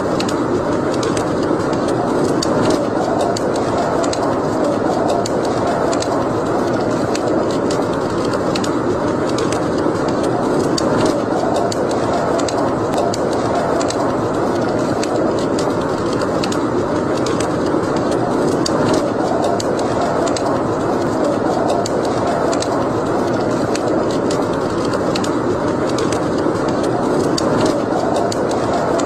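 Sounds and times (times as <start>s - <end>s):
fire burning in fireplace: 0.0s - 29.0s.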